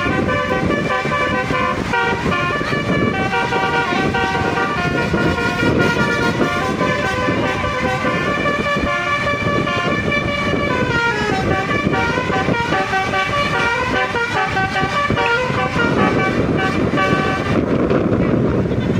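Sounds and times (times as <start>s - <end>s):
bus musical horn playing notes: 0.0s - 17.8s
bus engine: 0.0s - 18.9s
road noise: 0.0s - 18.9s.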